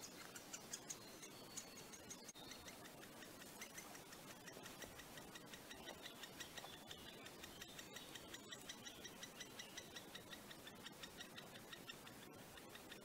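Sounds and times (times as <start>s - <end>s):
woodpecker nestling begging calls: 0.0s - 13.0s.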